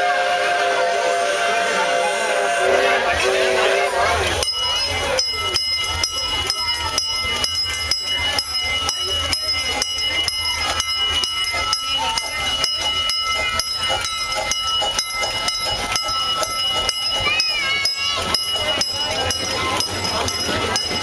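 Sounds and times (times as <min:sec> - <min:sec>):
faint voices: 0:00.0 - 0:21.0
miniature steam train clattering: 0:00.0 - 0:21.0.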